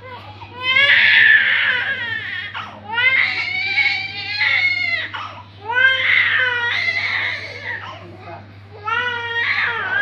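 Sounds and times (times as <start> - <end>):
baby crying: 0.0 - 10.0.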